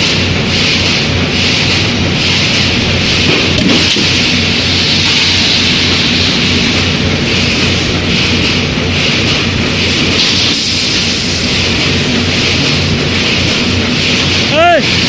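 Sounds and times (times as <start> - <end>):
welding machine hiss and clatter: 0.0 - 15.0.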